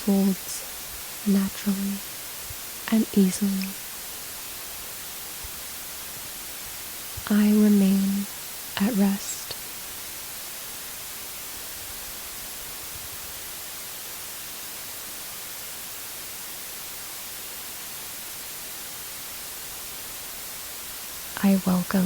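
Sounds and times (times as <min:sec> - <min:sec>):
steady white noise hiss: 0:00.0 - 0:22.0.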